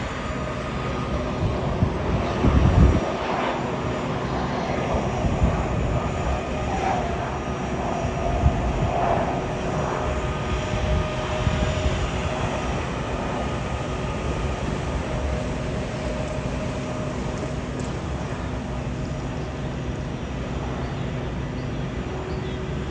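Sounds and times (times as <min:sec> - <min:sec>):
aircraft engines rumbling: 0:00.0 - 0:22.9.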